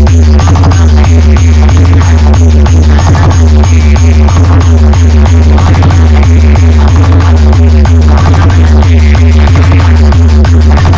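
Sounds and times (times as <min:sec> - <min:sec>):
electronic dance music: 0:00.0 - 0:10.9.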